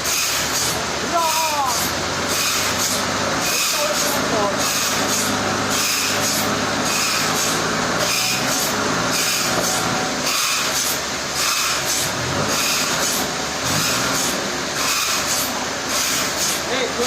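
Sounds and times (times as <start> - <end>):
loud pulsing machinery hiss: 0.0 - 17.0
sawmill engine hum: 0.0 - 17.0.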